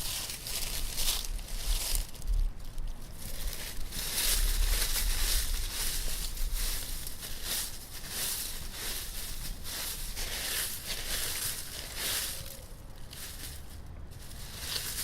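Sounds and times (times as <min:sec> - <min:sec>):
footsteps crunching dry leaves: 0:00.0 - 0:15.0
low rumble: 0:00.0 - 0:15.0.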